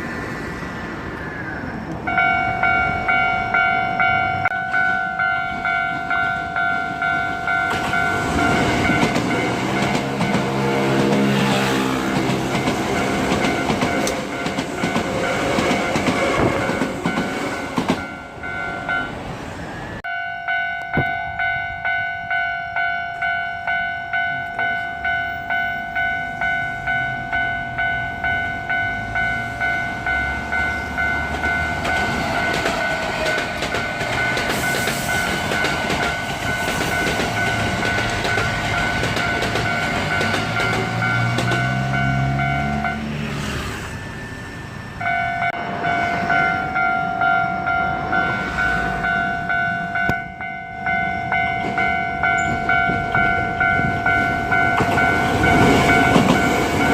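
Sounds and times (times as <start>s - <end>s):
electric train rumbling and clattering: 0.0s - 56.9s
level crossing warning bell: 2.0s - 56.9s.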